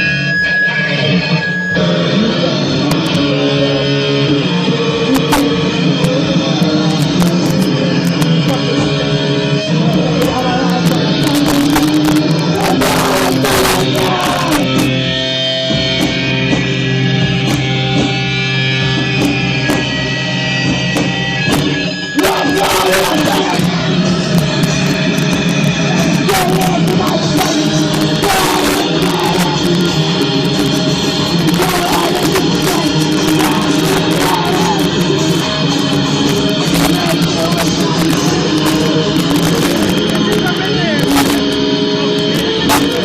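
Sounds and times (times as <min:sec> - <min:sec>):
person singing: 0:00.0 - 0:15.3, 0:21.8 - 0:43.0
live punk band playing: 0:00.0 - 0:43.0.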